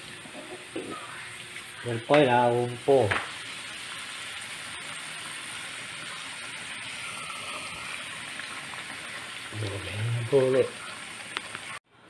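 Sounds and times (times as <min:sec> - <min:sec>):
frying sizzle in a wok: 0:00.0 - 0:11.8.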